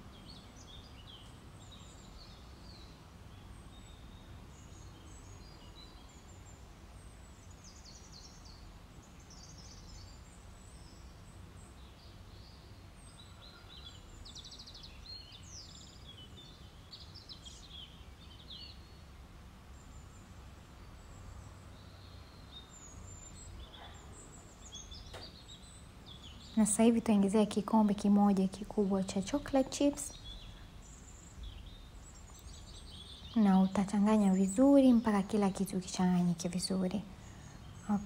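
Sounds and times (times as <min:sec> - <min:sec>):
low background hum: 0:00.0 - 0:38.0
small birds chirping: 0:00.0 - 0:38.0.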